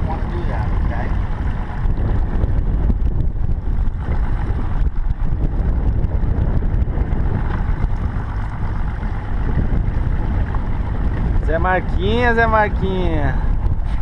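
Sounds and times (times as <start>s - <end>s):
water noise: 0.0s - 14.0s
wind buffeting microphone: 0.0s - 14.0s.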